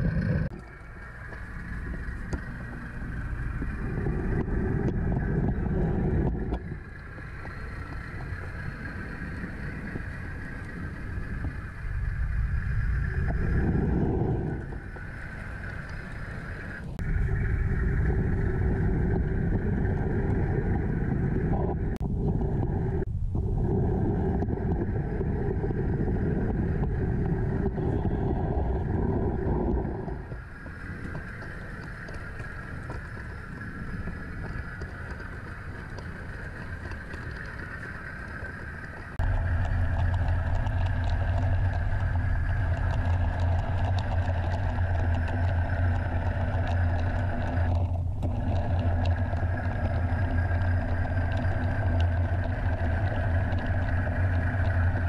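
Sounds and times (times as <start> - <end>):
diesel engine sound effect: 0.0 - 55.0
low hum: 0.0 - 55.0
model train rolling on track: 0.3 - 21.5, 24.0 - 55.0.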